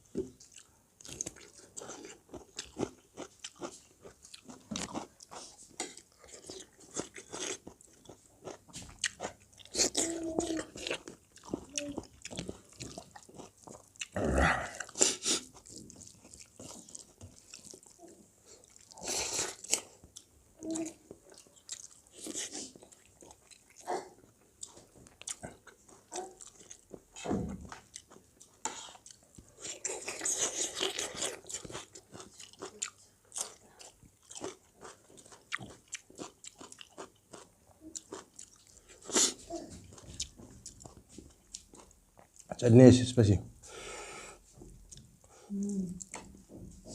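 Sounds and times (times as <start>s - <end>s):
people chewing food: 0.0s - 43.0s, 43.6s - 46.9s.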